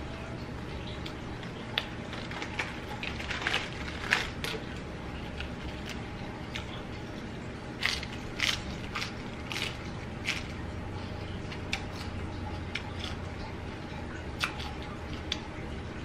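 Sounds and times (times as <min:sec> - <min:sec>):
lettuce crunching being chewed: 0:00.9 - 0:15.6.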